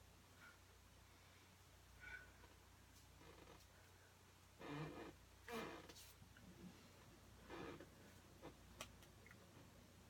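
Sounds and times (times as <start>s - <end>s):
faint small sounds: 0.0s - 10.0s.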